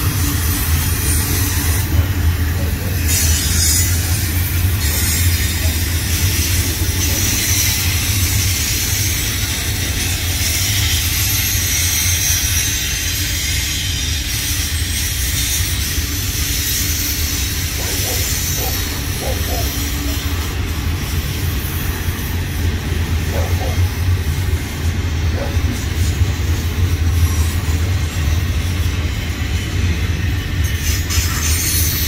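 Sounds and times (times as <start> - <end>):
steel wheels rumbling on rails: 0.0 - 32.0.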